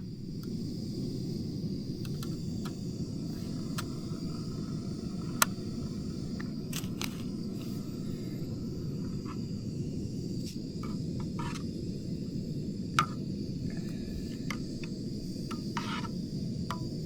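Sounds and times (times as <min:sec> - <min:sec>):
fire crackling pops: 0:00.0 - 0:17.0
fire rushing: 0:00.0 - 0:17.0.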